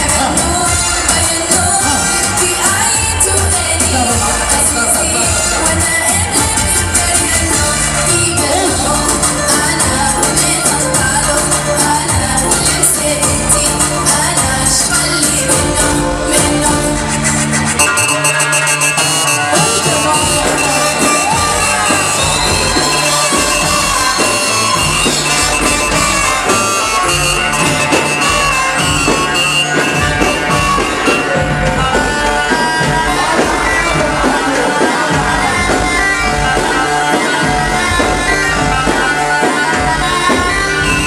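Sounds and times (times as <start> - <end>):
dance music with reedy lead melody: 0.0 - 41.0.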